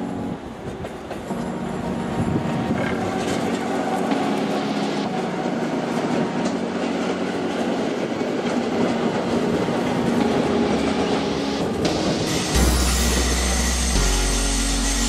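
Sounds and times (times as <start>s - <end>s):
electric train passing: 0.0s - 15.0s
train wheels on rails: 0.0s - 15.0s.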